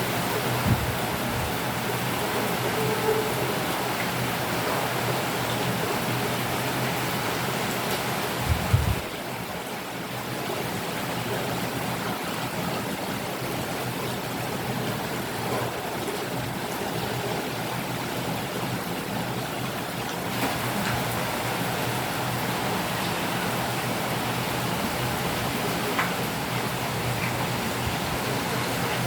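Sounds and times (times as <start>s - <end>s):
rain hiss: 0.0s - 29.0s.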